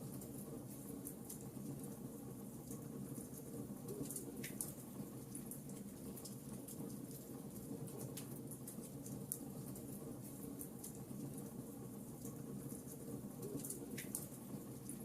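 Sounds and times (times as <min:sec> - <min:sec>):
low hiss of burning wood: 0:00.0 - 0:15.0.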